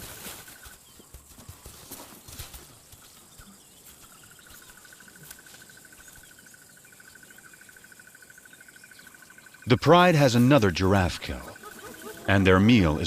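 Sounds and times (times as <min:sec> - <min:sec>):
faint chirps: 0:00.2 - 0:13.0.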